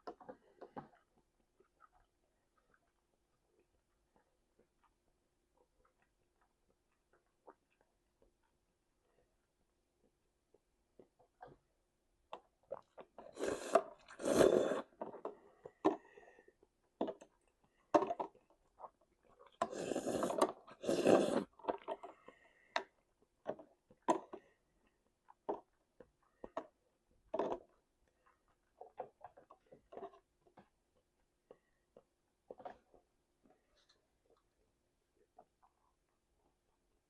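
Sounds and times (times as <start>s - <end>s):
chewing and mouth clicks: 0.0s - 9.4s, 12.3s - 34.6s.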